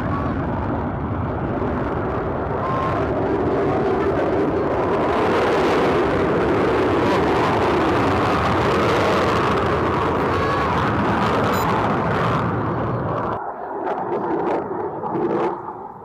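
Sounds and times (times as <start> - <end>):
jet engine roaring: 0.0 - 16.0.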